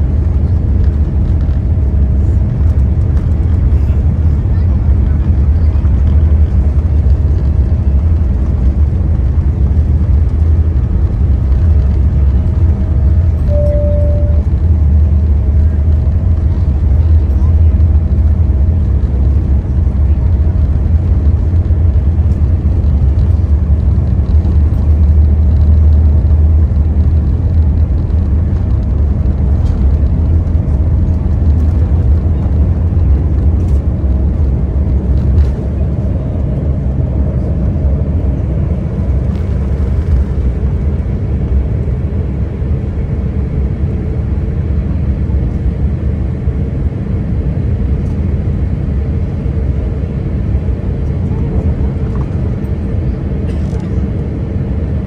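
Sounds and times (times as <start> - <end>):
jet engines low rumble: 0.0 - 55.0.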